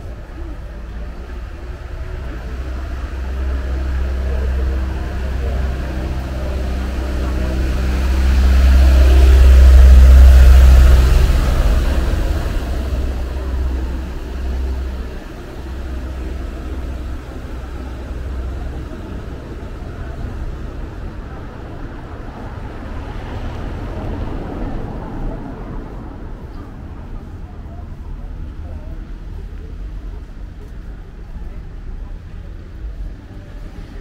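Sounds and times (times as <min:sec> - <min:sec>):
vehicle engine passing close: 0:00.0 - 0:27.8
street background noise: 0:00.0 - 0:34.0.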